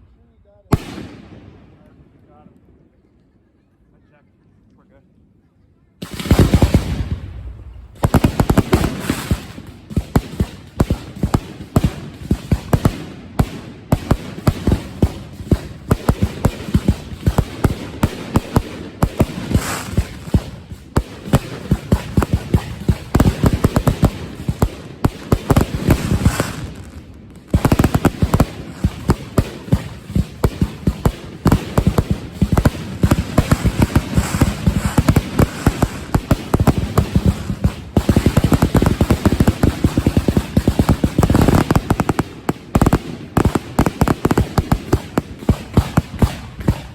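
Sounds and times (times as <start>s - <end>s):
fireworks bangs and cracks: 6.0s - 46.9s.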